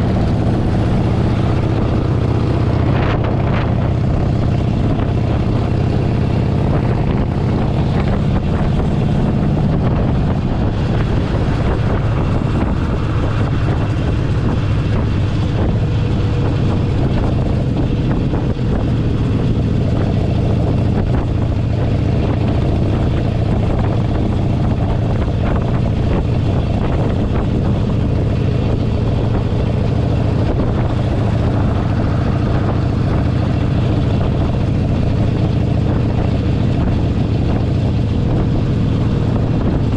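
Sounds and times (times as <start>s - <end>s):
motorcycle engine cruising: 0.0s - 39.9s
road noise rushing: 0.0s - 39.9s.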